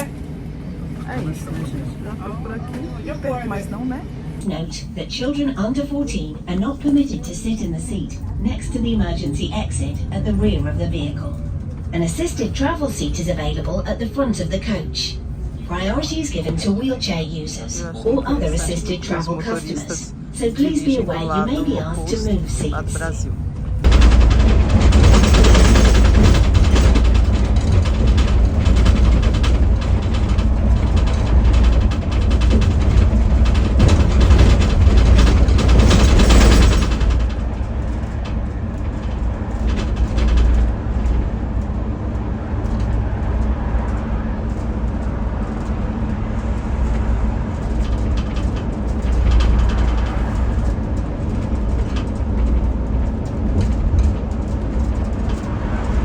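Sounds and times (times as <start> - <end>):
coach engine and road rumble: 0.0 - 56.0.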